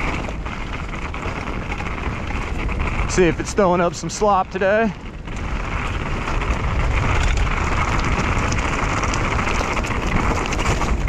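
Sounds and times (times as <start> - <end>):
bike tyres on gravel trail: 0.0 - 11.0
ticks of gravel: 0.0 - 11.0
wind rumble on microphone: 0.0 - 11.0.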